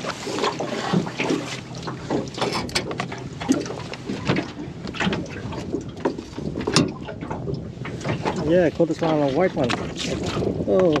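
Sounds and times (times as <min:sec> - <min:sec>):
handling clicks and knocks on boat: 0:00.0 - 0:11.0.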